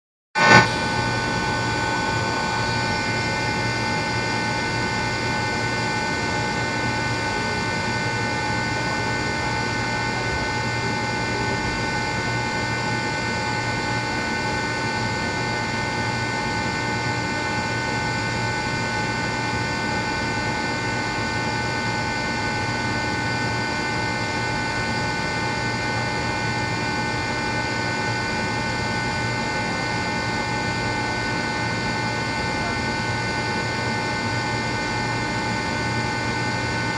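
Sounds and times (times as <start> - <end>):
air compressor whine and hum: 0.4 - 36.9.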